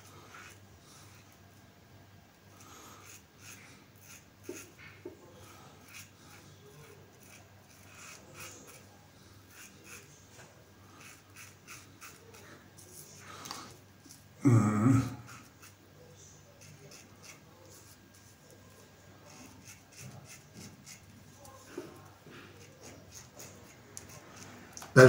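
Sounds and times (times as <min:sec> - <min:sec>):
razor scraping stubble: 0:00.0 - 0:01.3, 0:02.6 - 0:08.9, 0:09.5 - 0:14.2, 0:15.2 - 0:25.0.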